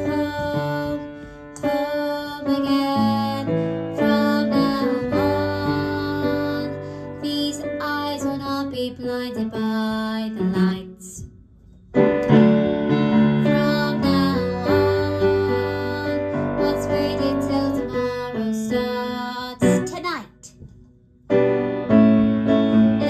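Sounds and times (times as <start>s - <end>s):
piano playing: 0.0s - 11.2s, 11.8s - 20.2s, 21.2s - 23.0s.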